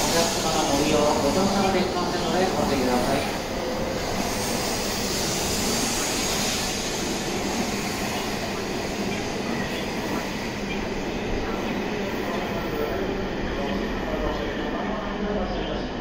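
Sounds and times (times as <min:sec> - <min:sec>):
train rushing past: 0:00.0 - 0:16.0.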